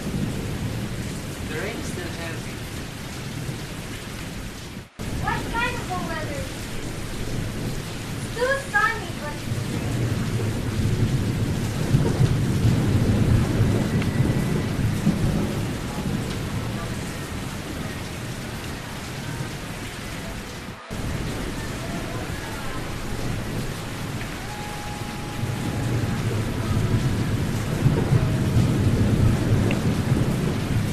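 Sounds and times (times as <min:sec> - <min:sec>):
steady rain: 0:00.0 - 0:30.9
thunder rolling: 0:00.0 - 0:30.9.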